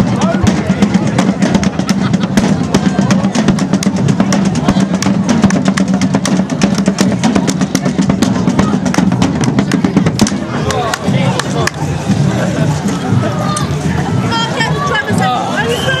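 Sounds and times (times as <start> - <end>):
marching drum band: 0.0 - 16.0.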